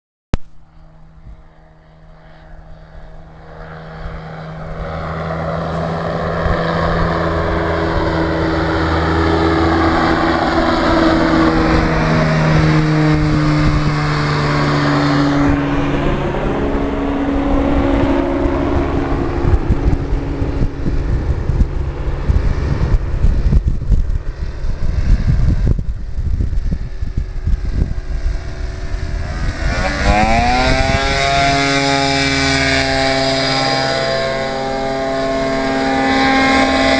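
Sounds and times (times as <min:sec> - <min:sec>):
propeller aircraft flying past: 0:00.4 - 0:36.9.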